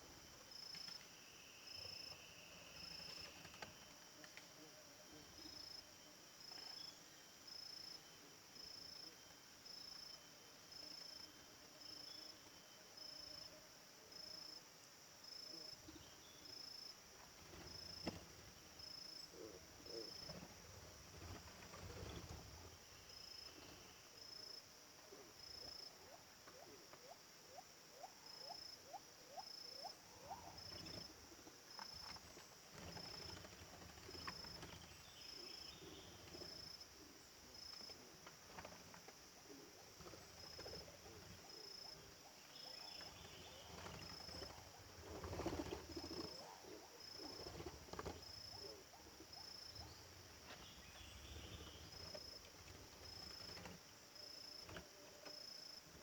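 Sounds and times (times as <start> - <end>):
faint insect chirping: 0.0 - 56.0.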